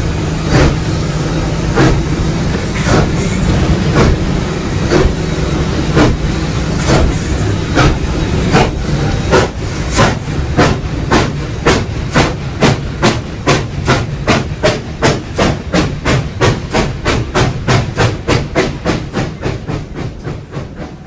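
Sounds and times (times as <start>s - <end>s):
steam locomotive exhaust chuffs: 0.0s - 21.0s.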